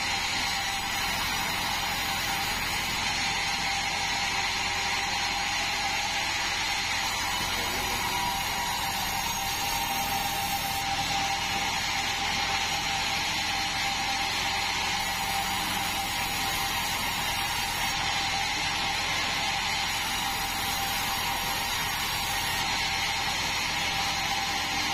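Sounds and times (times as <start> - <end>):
band sawmill running: 0.0 - 24.9.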